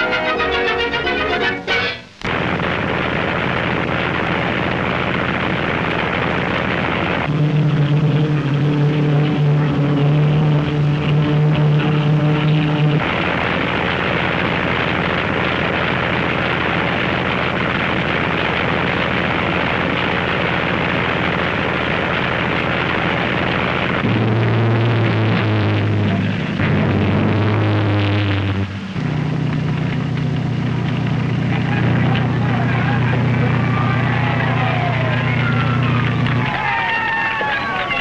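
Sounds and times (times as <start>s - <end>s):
loud engine drone: 0.0s - 38.0s
steady hum and hiss: 0.0s - 38.0s
motorboat engines running: 2.2s - 38.0s.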